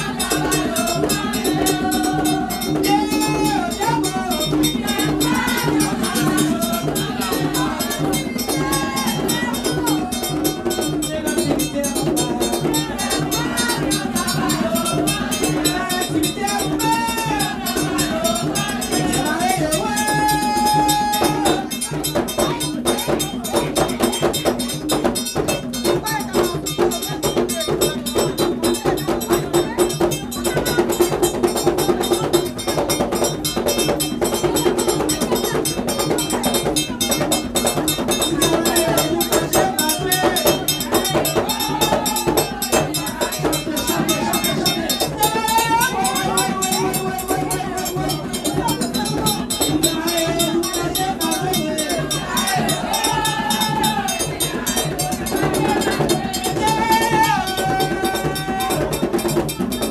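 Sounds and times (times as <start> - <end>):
hand drums fast rhythm: 0.0 - 59.9
voices singing: 0.0 - 59.9.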